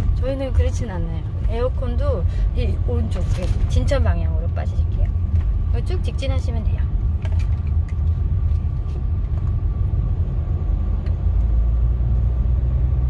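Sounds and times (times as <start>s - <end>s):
car cabin engine and road rumble: 0.0s - 13.0s.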